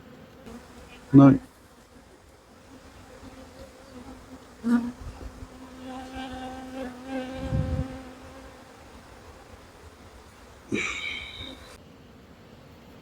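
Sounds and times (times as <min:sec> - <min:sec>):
bee buzzing: 0:00.0 - 0:11.8.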